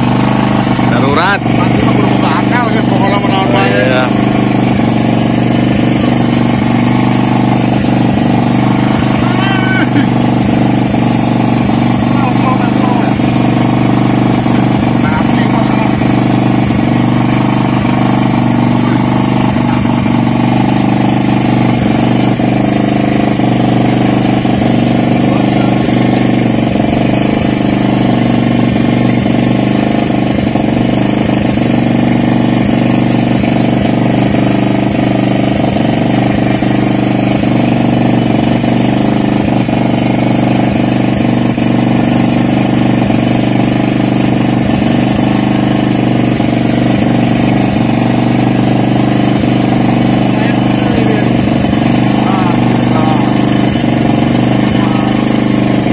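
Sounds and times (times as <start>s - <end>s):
engine low drone: 0.0s - 55.9s.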